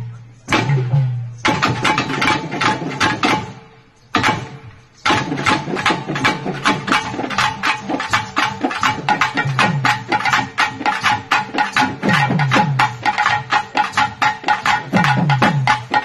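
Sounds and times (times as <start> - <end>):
folk drum ensemble: 0.0 - 16.0.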